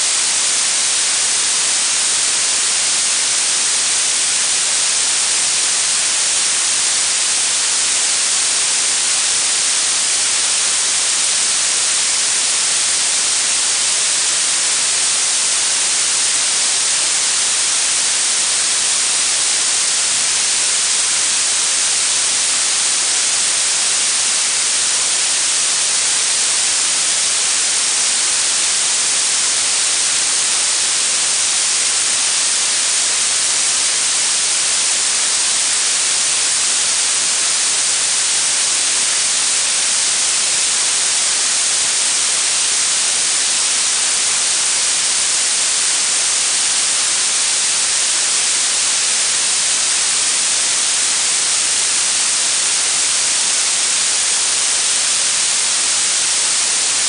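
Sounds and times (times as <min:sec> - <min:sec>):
synthetic blue noise hiss: 0:00.0 - 0:54.0.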